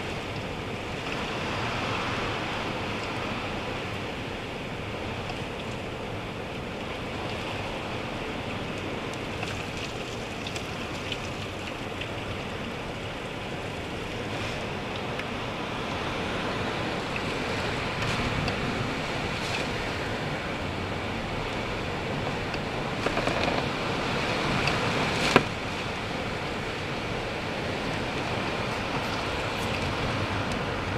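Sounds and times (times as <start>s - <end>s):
wind and rain rushing: 0.0s - 30.9s.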